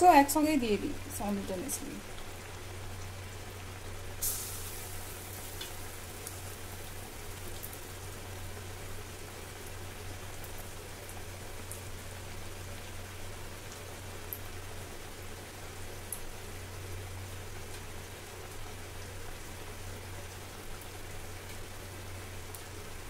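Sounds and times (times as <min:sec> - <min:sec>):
frying in hot oil sizzling: 0:00.0 - 0:23.0
low steady hum: 0:00.0 - 0:23.0.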